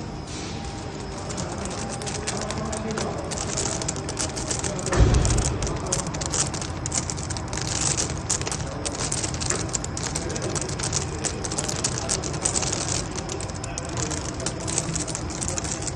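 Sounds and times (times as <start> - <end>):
machine low hum: 0.0 - 15.9
machine clicking: 0.6 - 15.9.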